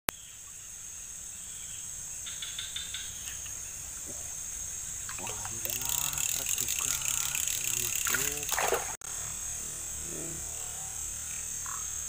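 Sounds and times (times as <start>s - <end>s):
insects chirring: 0.1s - 12.0s
quick insect chirps: 0.1s - 12.0s.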